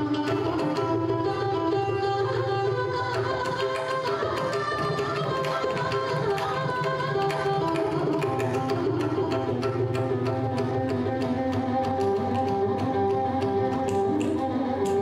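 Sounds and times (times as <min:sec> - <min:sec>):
violins bowing a melody: 0:00.0 - 0:15.0.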